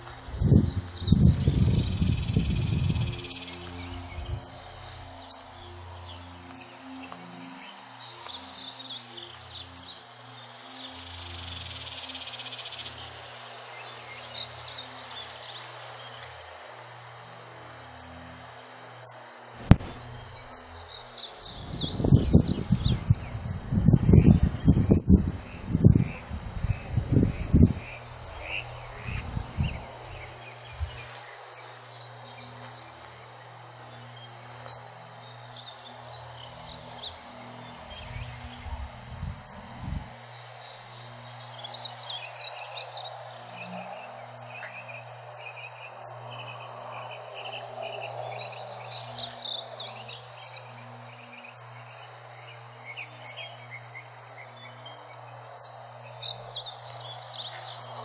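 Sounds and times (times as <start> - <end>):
insects chirping: 0.0 - 58.0
birds chirping and singing: 0.2 - 16.3, 19.6 - 32.8, 34.1 - 51.2.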